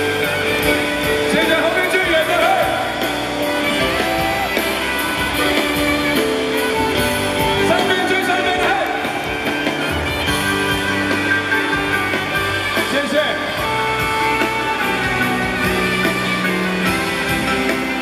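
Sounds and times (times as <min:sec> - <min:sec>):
live pop-rock band playing: 0:00.0 - 0:18.0
steady drum beat: 0:00.0 - 0:18.0.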